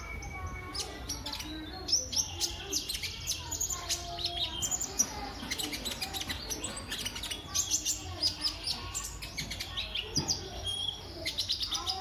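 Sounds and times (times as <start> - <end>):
bird chirping and trilling: 0.0 - 12.0.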